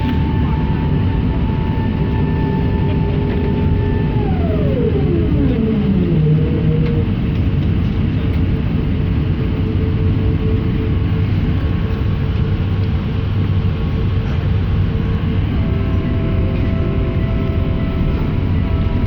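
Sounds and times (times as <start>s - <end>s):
aircraft rolling rumble: 0.0s - 19.0s
engine hum: 0.0s - 19.0s.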